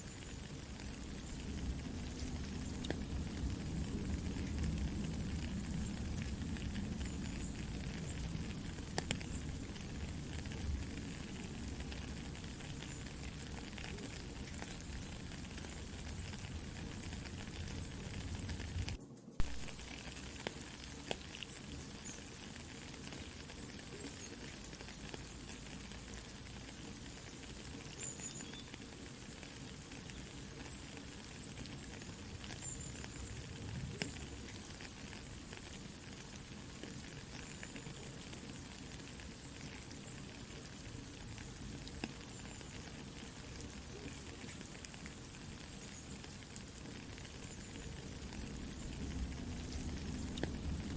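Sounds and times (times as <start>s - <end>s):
campfire crackling and popping: 0.0s - 50.9s
soft rain falling: 0.0s - 50.9s.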